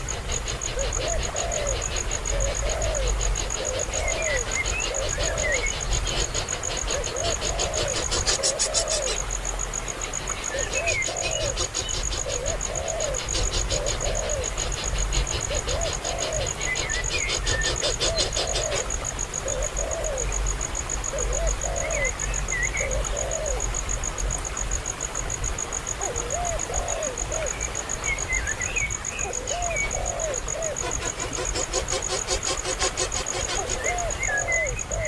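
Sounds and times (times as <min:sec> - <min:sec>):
bird calling: 0:00.0 - 0:09.2, 0:10.5 - 0:20.3, 0:26.0 - 0:35.0
pulsing insect trill: 0:00.0 - 0:09.8, 0:10.4 - 0:35.0.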